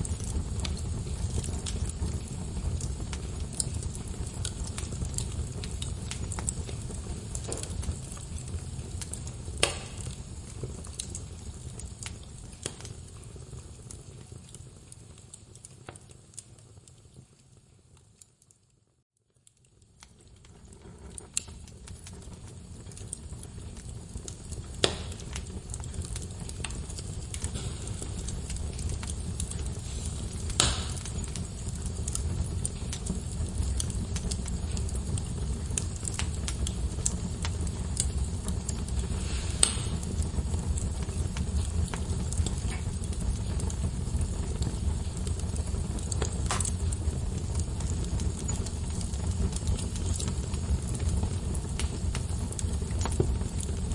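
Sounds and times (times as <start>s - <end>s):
sharp fire pops: 0.0s - 17.0s, 19.4s - 53.9s
log fire crackling: 0.0s - 53.9s.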